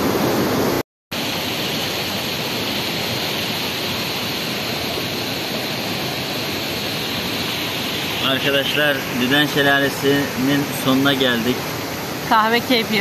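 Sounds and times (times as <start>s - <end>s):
water rushing over rapids: 0.0s - 13.0s.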